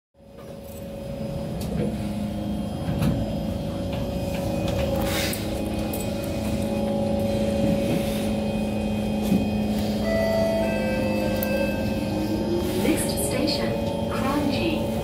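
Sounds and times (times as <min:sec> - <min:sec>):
train equipment hum: 0:00.2 - 0:15.0.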